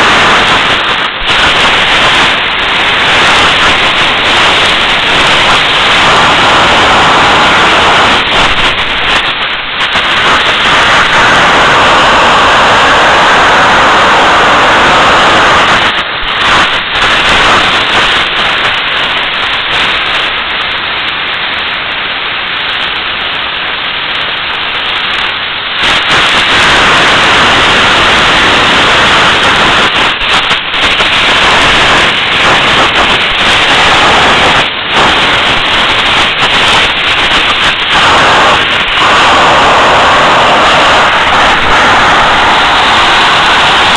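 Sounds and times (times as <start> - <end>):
jet engine roaring: 0.0 - 21.9, 22.7 - 43.9.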